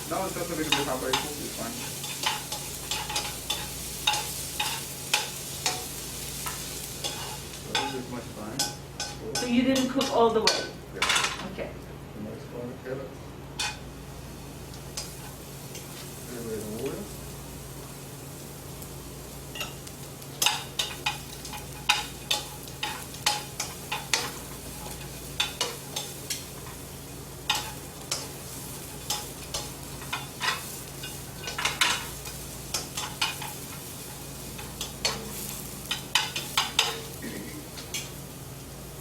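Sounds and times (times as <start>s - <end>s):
vegetables sizzling in oil: 0.0s - 11.6s, 13.3s - 39.0s.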